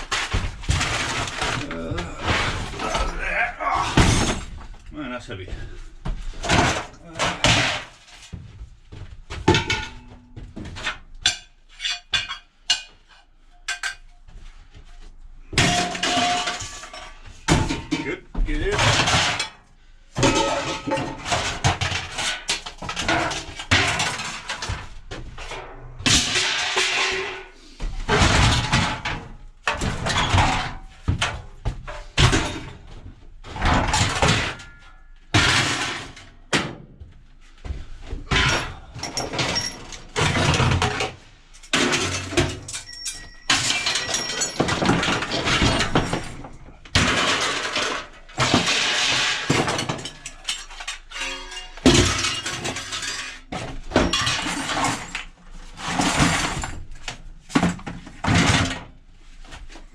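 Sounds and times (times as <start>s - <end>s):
scrap metal clattering onto pile: 0.0s - 3.2s, 6.2s - 8.5s, 9.3s - 13.0s, 15.5s - 36.8s, 38.2s - 59.0s.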